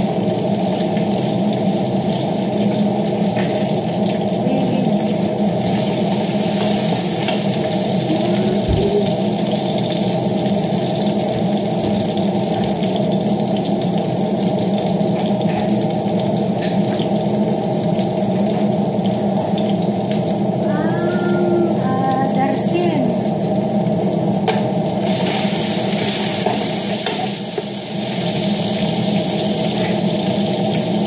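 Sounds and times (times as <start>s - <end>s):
chicken sizzling in a pot: 0.0s - 31.0s.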